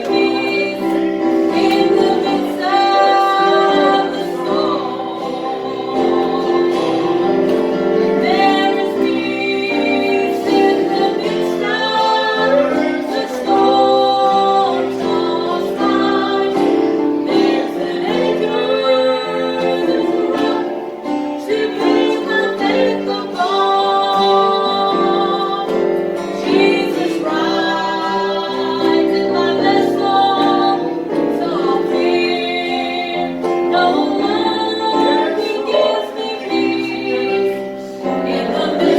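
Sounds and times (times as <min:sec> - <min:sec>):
instrumental accompaniment: 0:00.0 - 0:38.9
woman singing: 0:00.0 - 0:38.9.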